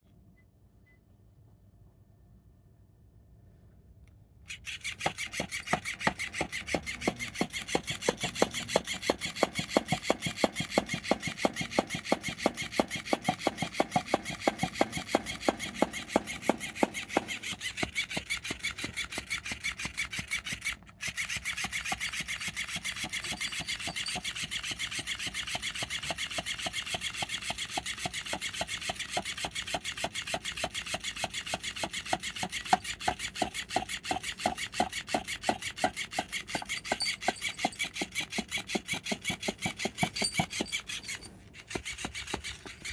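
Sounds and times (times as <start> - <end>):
toy mechanism rasping click: 4.5 - 42.9.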